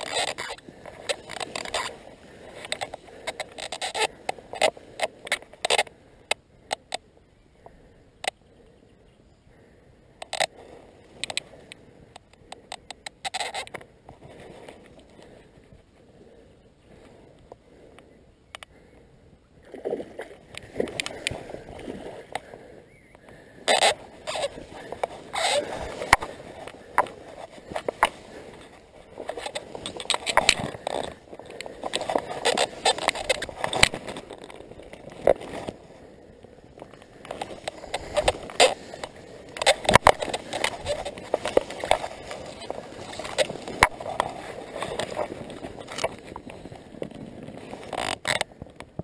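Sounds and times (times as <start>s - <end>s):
fishing rod and reel clicks: 0.0s - 7.1s, 10.2s - 15.4s, 20.2s - 22.5s, 23.2s - 49.0s
grass and reeds rustling: 0.0s - 8.4s, 9.6s - 17.7s, 19.6s - 49.0s.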